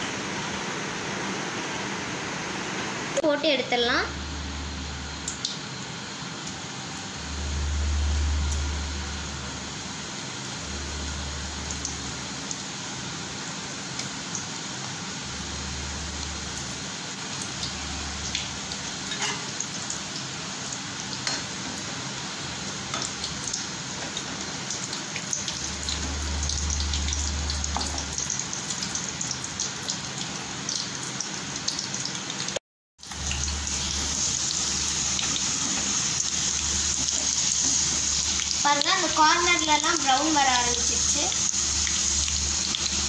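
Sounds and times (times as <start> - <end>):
chips deep-frying in oil: 5.0 - 43.0.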